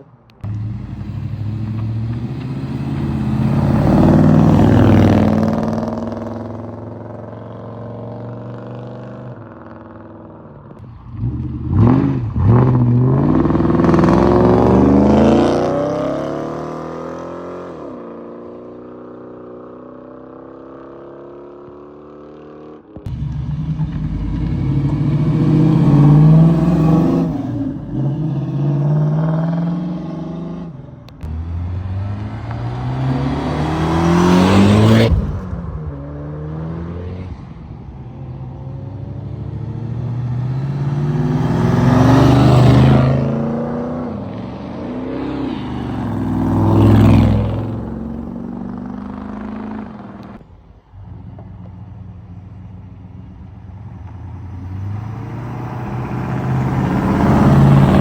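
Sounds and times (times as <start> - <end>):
cars accelerating past: 0.0 - 9.3, 10.8 - 19.7, 23.0 - 58.0.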